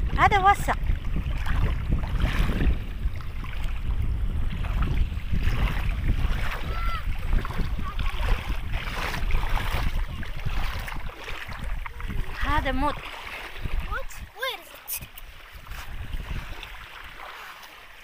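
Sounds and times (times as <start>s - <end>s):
sea water washing at shore: 0.0s - 18.0s
wind rumbling on microphone: 0.0s - 18.0s.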